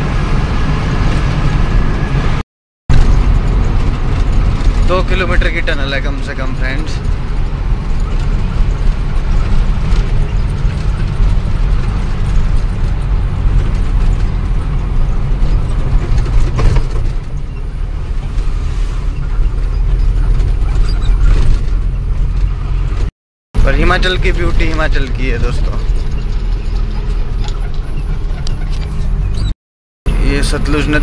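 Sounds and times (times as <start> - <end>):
truck engine and road noise: 0.0 - 31.0
knocks and rattles: 2.9 - 18.6, 19.2 - 23.1, 23.8 - 29.6.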